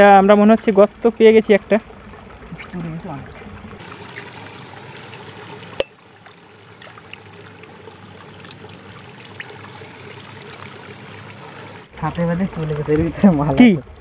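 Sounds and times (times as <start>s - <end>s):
shallow water trickling: 0.0s - 14.0s
small splashes: 1.6s - 14.0s.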